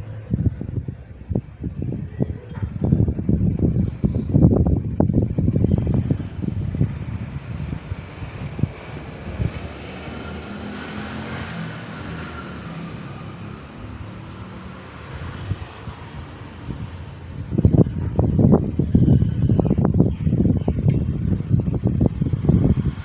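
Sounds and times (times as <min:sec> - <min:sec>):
steady rushing noise: 0:00.0 - 0:23.0
wind buffeting the microphone: 0:00.0 - 0:23.0.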